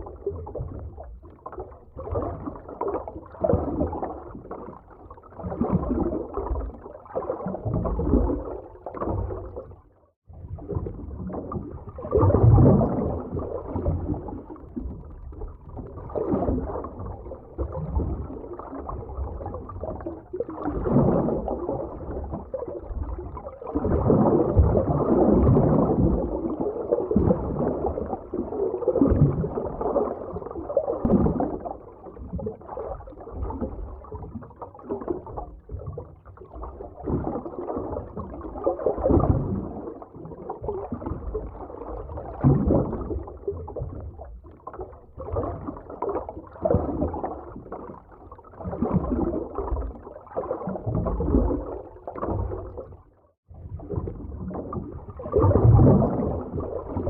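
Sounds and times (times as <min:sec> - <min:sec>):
gurgling bubbles: 0:00.0 - 0:57.0
underwater surging water: 0:00.0 - 0:57.0.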